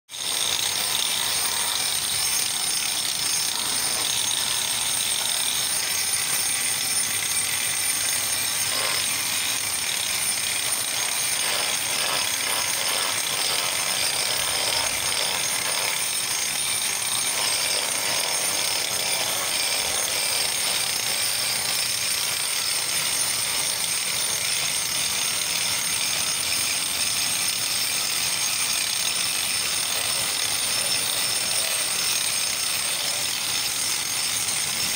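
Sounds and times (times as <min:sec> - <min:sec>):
grinding wheel rasping on concrete: 0:00.1 - 0:34.9
angle grinder motor whine: 0:00.3 - 0:33.8.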